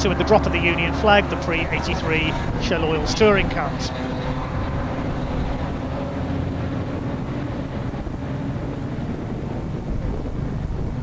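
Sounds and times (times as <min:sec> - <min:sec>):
racing car engines rumbling: 0:00.0 - 0:11.0.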